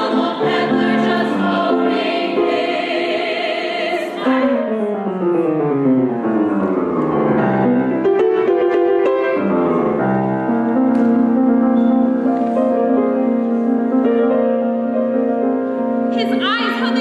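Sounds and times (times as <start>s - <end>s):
piano playing slow chords: 0.0s - 16.4s.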